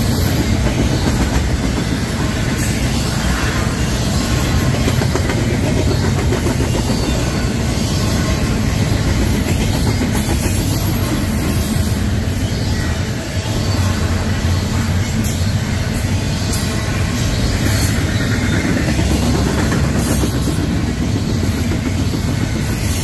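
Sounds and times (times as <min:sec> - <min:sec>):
freight train cars rumbling past: 0:00.0 - 0:23.0.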